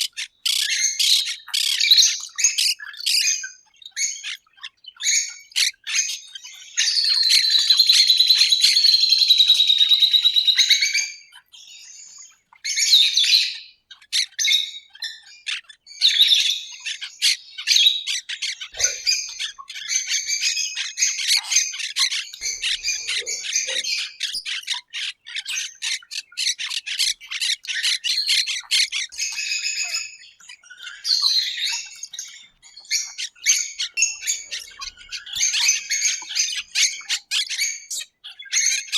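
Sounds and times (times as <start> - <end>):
birds chirping and squawking: 0.0 - 38.9.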